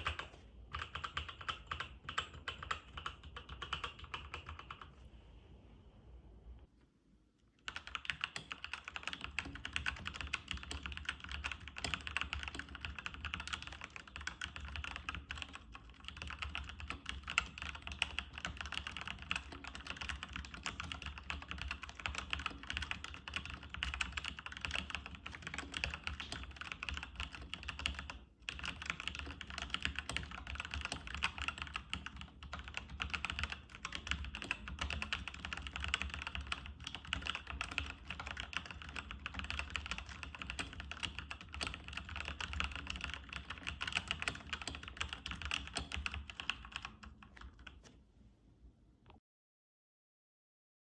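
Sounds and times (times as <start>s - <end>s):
keyboard typing clicks: 0.0s - 4.9s, 7.6s - 48.0s.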